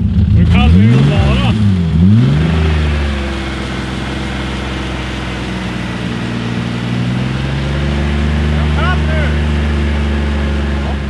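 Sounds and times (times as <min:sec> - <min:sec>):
car engine running at steady revs: 0:00.0 - 0:11.0.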